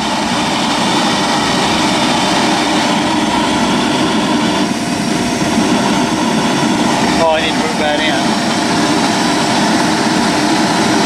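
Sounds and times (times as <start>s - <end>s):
gas forge burner rushing: 0.0s - 11.0s.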